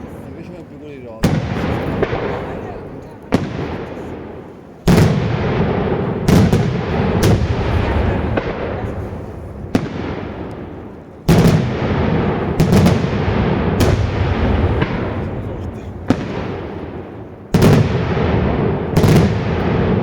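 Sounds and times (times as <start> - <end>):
fireworks booming: 0.0 - 20.0
rolling echo rumble: 0.0 - 20.0.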